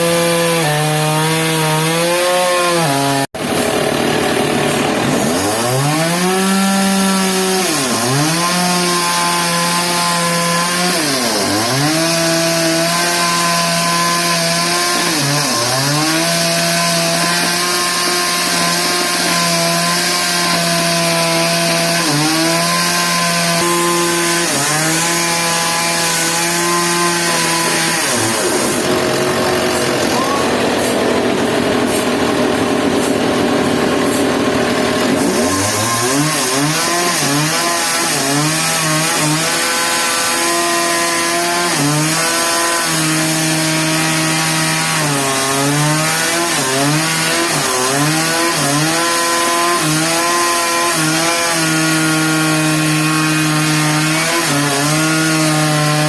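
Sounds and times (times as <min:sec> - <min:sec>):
engine-driven saw cutting wood: 0:00.0 - 0:56.0.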